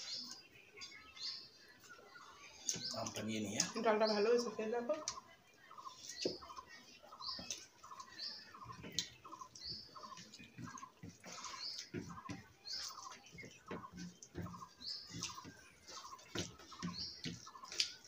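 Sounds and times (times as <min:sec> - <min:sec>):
people eating by hand: 0:00.0 - 0:18.0.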